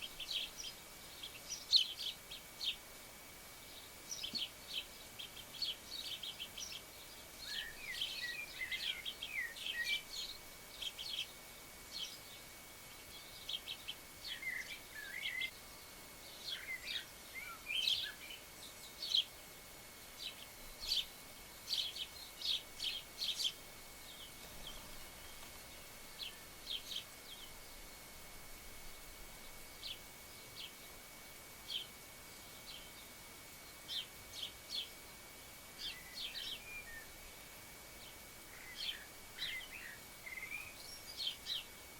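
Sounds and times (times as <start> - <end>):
warbling bird twitter: 0.0 - 2.8, 3.6 - 27.9, 31.6 - 35.1, 35.8 - 37.3, 38.0 - 41.8
small birds chirping: 0.0 - 41.9.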